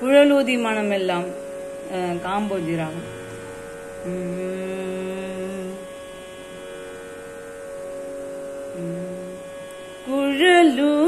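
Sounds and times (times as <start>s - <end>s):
drone of held tones: 0.0s - 11.0s
low held tone: 0.0s - 11.0s.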